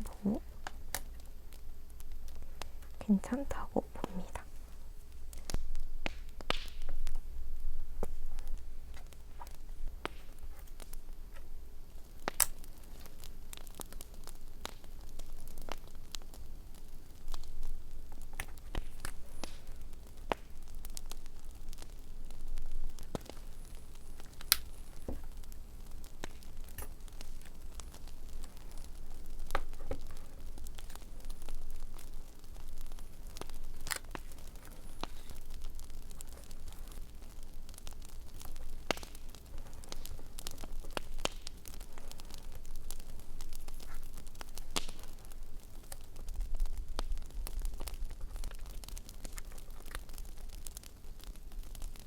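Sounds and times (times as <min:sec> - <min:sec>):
campfire crackling and popping: 0:00.0 - 0:52.0.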